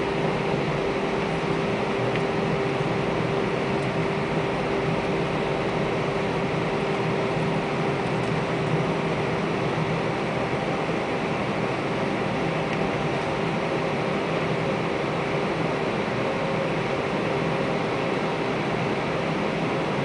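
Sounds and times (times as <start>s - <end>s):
constant droning tone: 0.0s - 20.0s
jet engines and airflow rushing: 0.0s - 20.0s.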